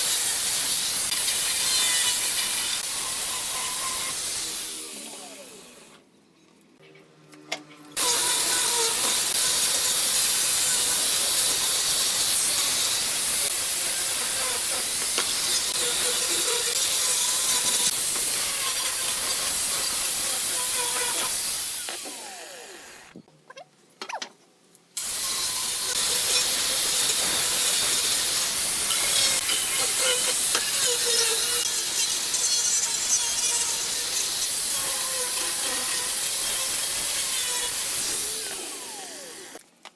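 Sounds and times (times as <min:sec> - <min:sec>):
power tool hissing on wood: 0:00.0 - 0:06.0, 0:08.0 - 0:23.2, 0:25.0 - 0:39.6.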